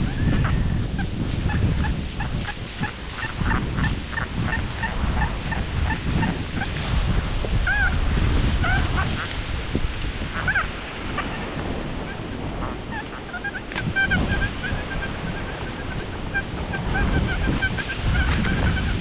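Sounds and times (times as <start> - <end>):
geese honking: 0.0 - 6.8, 7.6 - 9.6, 10.2 - 19.0
wind buffeting microphone: 0.0 - 19.0.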